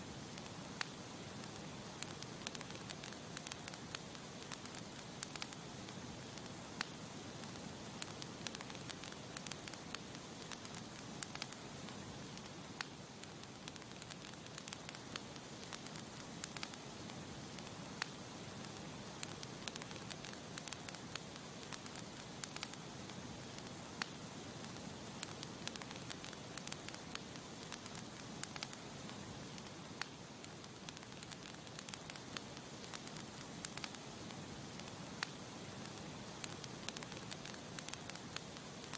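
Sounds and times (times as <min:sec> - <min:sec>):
campfire hissing: 0:00.0 - 0:38.9
wood crackling and popping: 0:00.2 - 0:38.9.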